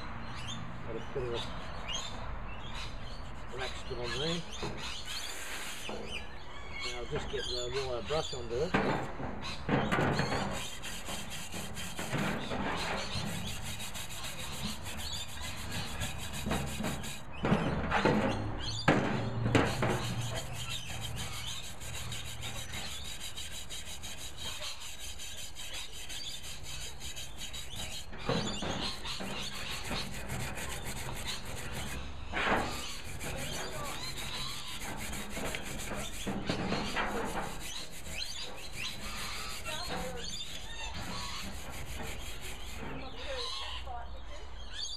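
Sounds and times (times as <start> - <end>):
scrapes and knocks on metal: 2.0 - 43.8
wire brush scrubbing metal: 3.1 - 6.3, 6.9 - 43.7.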